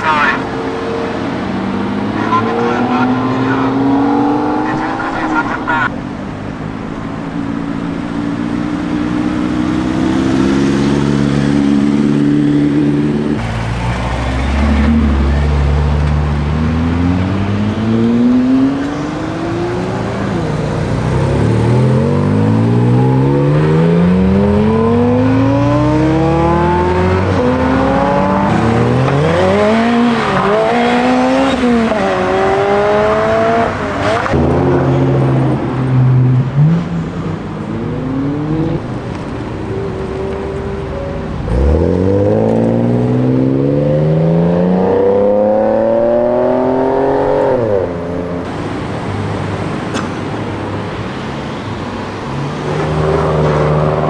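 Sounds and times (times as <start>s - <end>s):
car engines accelerating hard: 0.0s - 54.0s
engine revving in blips: 8.4s - 36.9s, 37.8s - 54.0s.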